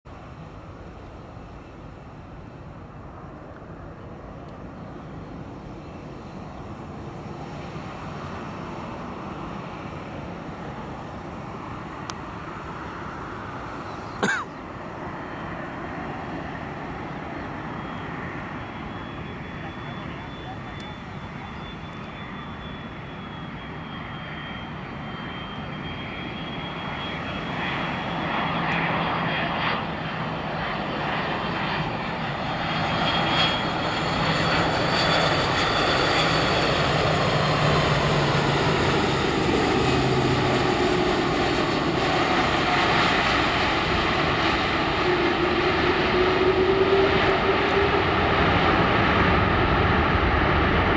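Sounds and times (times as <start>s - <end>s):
jet engines landing: 0.1s - 50.9s.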